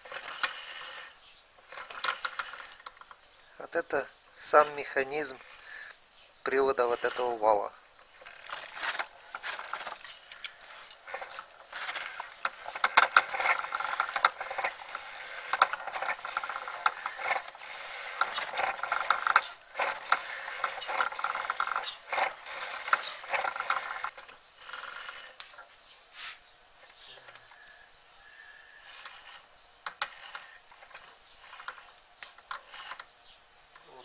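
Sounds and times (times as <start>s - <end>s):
coil-winding machine clicking and rattling: 0.0s - 5.6s, 6.4s - 25.6s, 28.8s - 33.2s.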